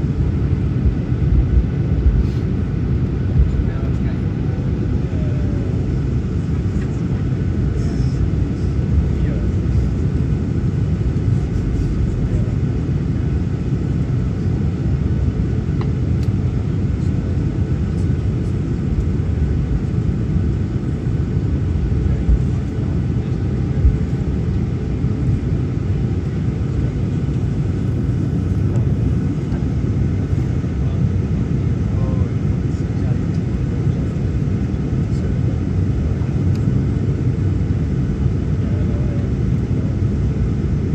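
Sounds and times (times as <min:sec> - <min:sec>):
faint high engine whine: 0:00.0 - 0:40.9
low rumble of jet engines in cabin: 0:00.0 - 0:40.9.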